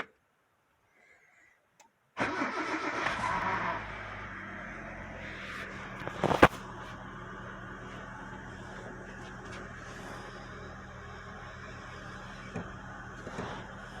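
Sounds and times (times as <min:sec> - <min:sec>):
car engine starting and idling: 0:02.2 - 0:14.0.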